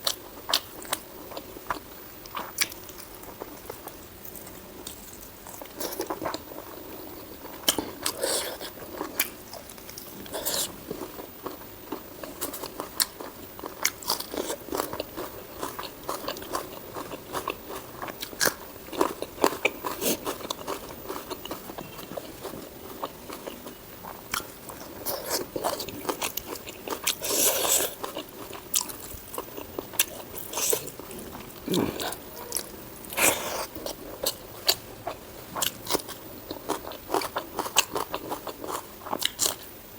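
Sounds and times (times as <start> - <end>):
person chewing and biting: 0.0 - 39.7.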